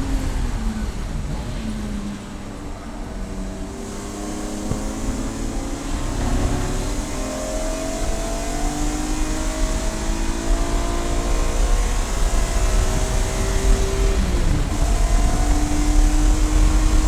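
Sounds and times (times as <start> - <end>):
race car engine accelerating: 0.0 - 17.0
road and wind rumble: 0.0 - 17.0.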